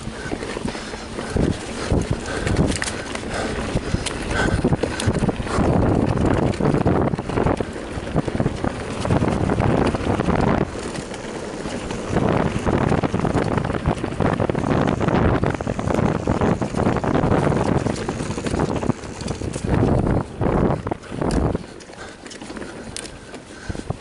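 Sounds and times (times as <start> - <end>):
bike clattering over bumps: 0.0 - 24.0
bike tyre rumble: 0.0 - 24.0
wind on microphone: 0.0 - 24.0.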